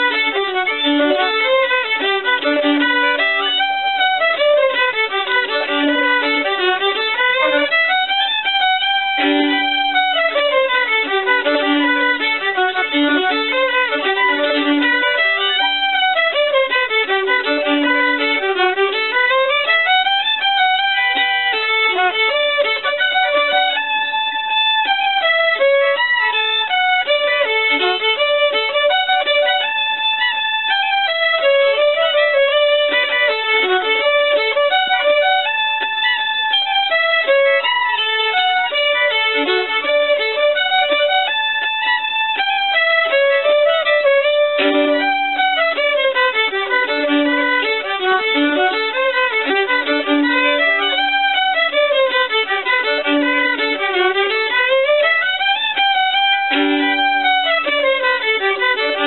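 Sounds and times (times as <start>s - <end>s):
two violins playing fiddle tune: 0.0s - 59.0s.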